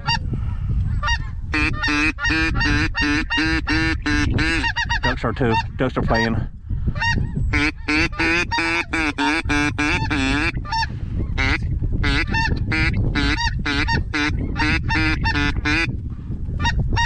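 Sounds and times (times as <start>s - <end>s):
geese yelping honks: 1.0s - 6.3s, 7.0s - 15.9s.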